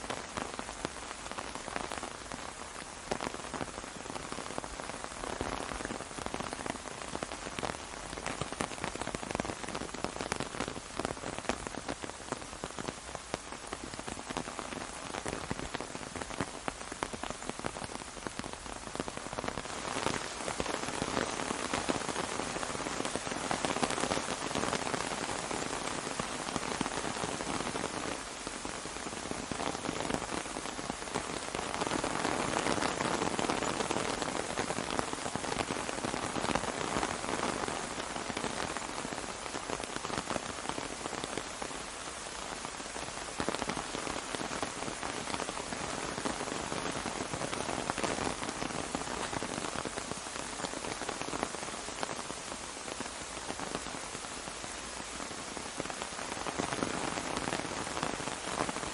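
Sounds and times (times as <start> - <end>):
rain pattering on an umbrella: 0.0 - 58.9.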